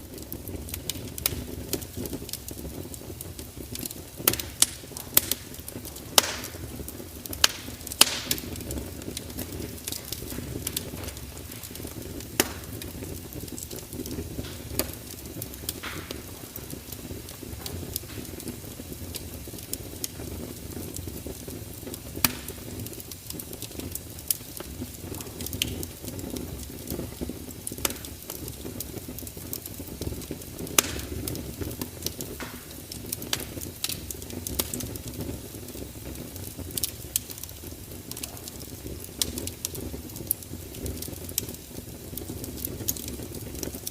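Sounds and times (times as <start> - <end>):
fire crackling and popping: 0.0 - 43.9
low rush of burning flames: 0.0 - 43.9.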